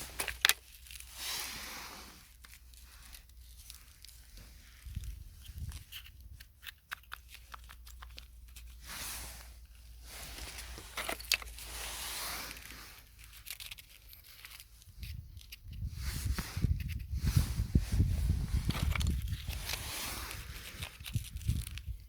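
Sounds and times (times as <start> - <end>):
dry material crackling and rustling: 0.0 - 16.8, 17.4 - 22.0.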